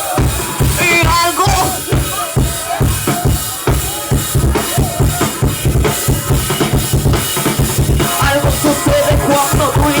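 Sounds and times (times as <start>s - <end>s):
drum kit beat: 0.0s - 10.0s
worship band music: 0.0s - 10.0s.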